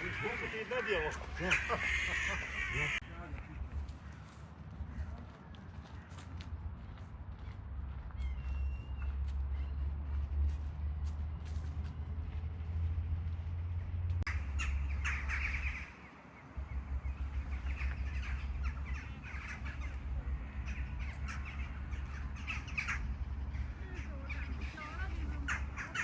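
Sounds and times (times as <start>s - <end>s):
birds calling: 0.0s - 10.2s, 14.3s - 26.0s
steady low rumble: 0.0s - 26.0s.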